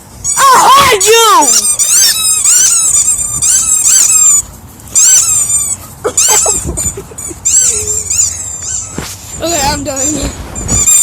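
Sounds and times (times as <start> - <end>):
dog yelping squeakily: 0.1 - 11.0.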